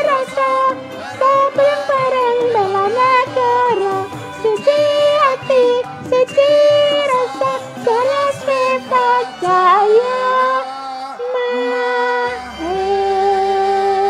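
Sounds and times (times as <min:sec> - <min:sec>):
backing music: 0:00.0 - 0:14.0
woman singing: 0:00.0 - 0:14.0.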